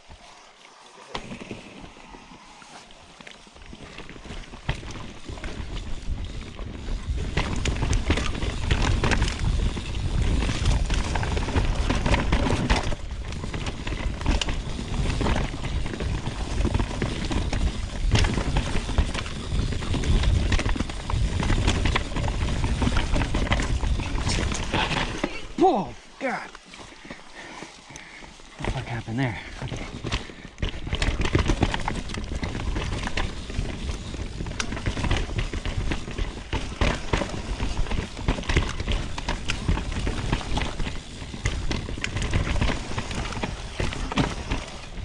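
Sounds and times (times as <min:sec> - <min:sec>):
bike tyres on rough ground: 0:00.0 - 0:45.0.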